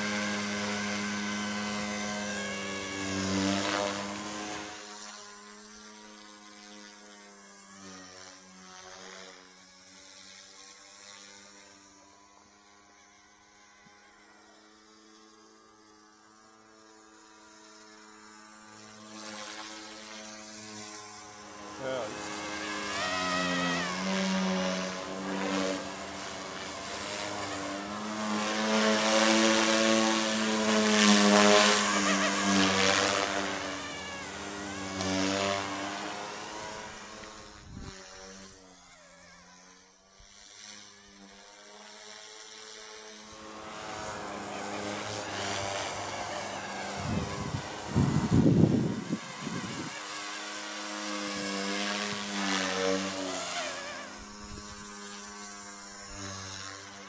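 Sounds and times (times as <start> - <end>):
rc helicopter rotor whine: 0.0 - 57.0.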